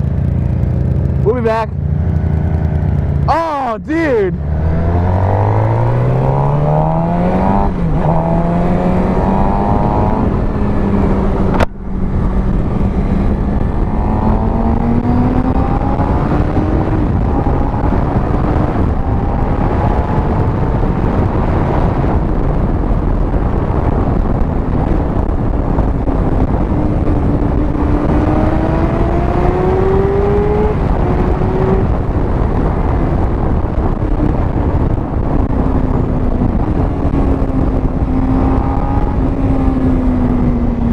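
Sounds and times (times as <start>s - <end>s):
motorcycle engine under way: 0.0s - 3.5s, 4.4s - 40.9s
wind rushing: 0.9s - 40.9s.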